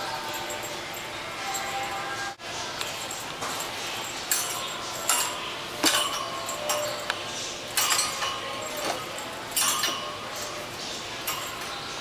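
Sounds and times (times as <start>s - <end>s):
wire cage door clinking and rattling: 0.0s - 12.0s.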